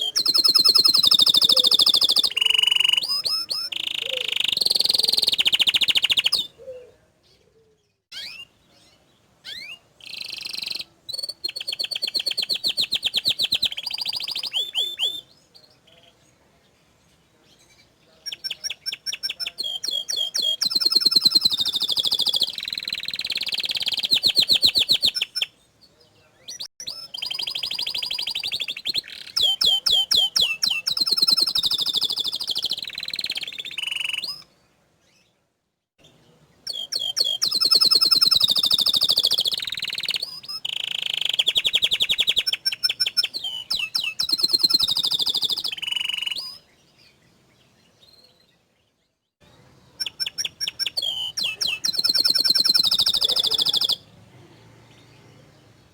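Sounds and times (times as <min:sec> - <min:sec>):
canary singing trills: 0:00.0 - 0:16.3, 0:17.4 - 0:35.3, 0:36.0 - 0:55.9.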